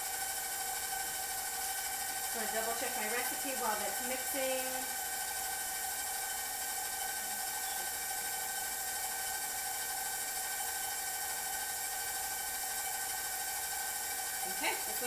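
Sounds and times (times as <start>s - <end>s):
electric mixer whining: 0.0s - 15.0s.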